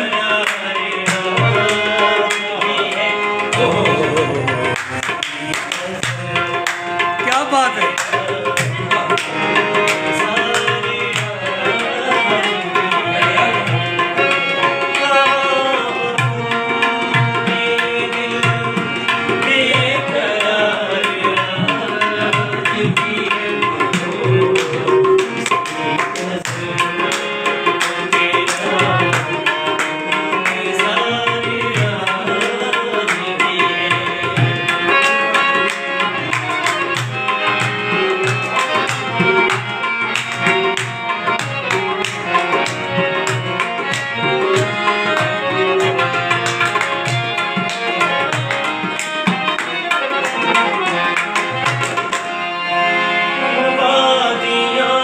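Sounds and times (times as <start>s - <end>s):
harmoniums playing chords: 0.0s - 55.0s
tabla rhythm: 0.0s - 55.0s.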